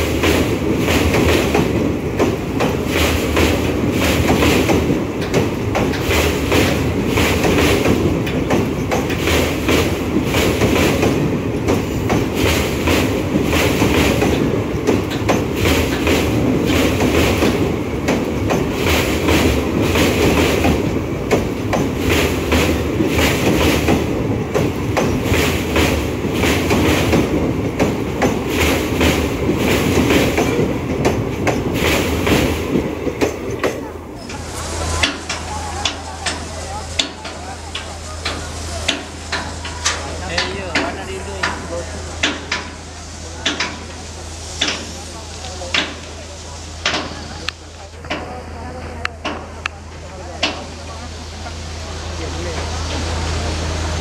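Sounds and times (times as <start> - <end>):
train wheels clattering: 0.0 - 51.6
train rumbling past: 0.0 - 54.0.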